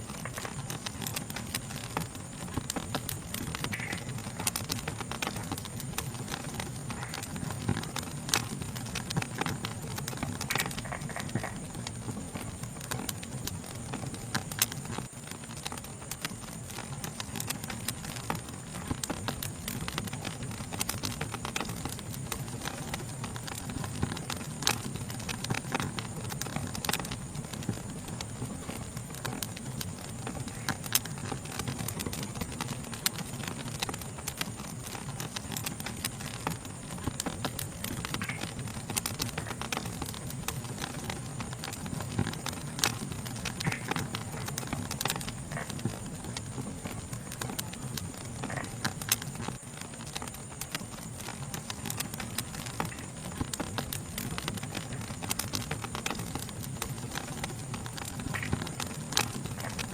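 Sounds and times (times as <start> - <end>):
fire crackling: 0.0 - 59.9
night insects chirping: 0.0 - 59.9.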